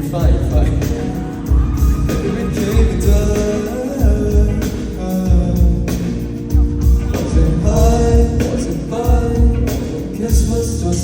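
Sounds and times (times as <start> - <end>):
heavy bass beat: 0.0 - 11.0
person singing: 0.0 - 11.0.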